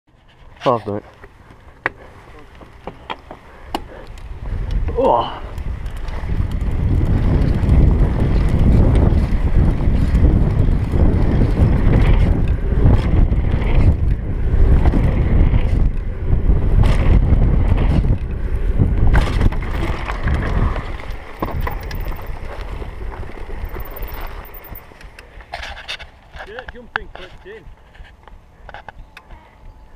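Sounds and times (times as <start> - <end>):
tyres rumbling on trail: 0.1 - 29.9
bike knocks and rattles: 0.7 - 29.0
wind buffeting microphone: 1.7 - 29.9.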